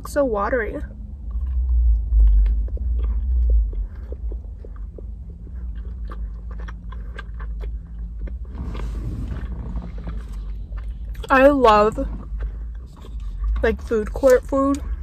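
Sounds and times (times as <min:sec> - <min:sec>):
close-up chewing with wet smacks: 0:00.0 - 0:15.0
low rumble: 0:00.0 - 0:15.0.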